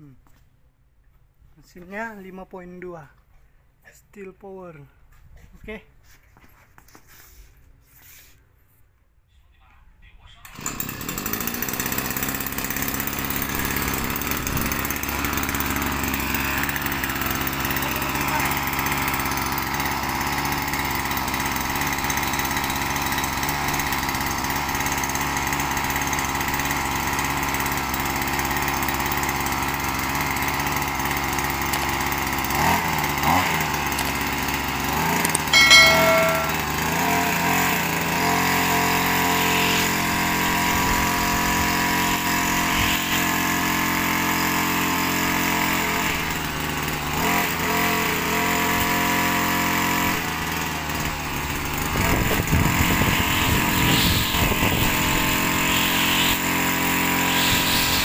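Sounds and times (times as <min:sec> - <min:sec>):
grass trimmer engine running: 0:10.6 - 0:58.0.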